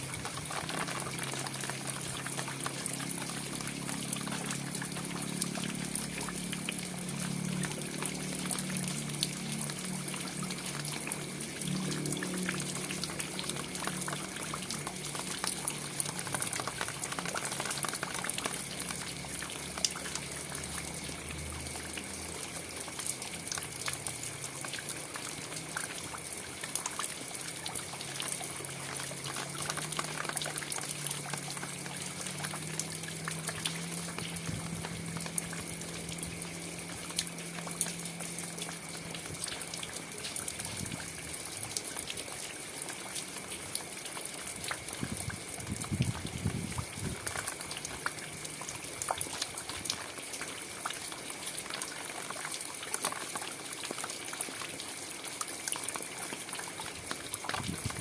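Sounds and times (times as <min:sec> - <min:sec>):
steady rain falling: 0:00.0 - 0:58.0
water trickling and pouring: 0:00.0 - 0:58.0.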